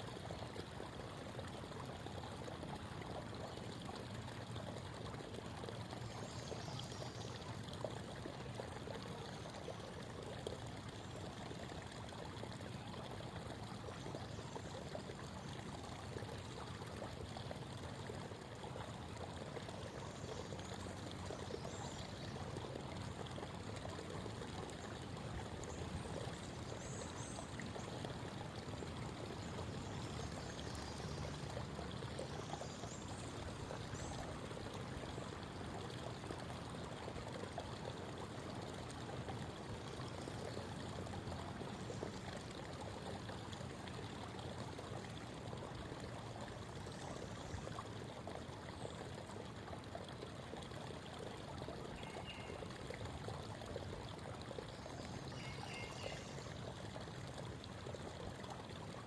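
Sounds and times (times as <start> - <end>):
creek babbling over stones: 0.0 - 59.0.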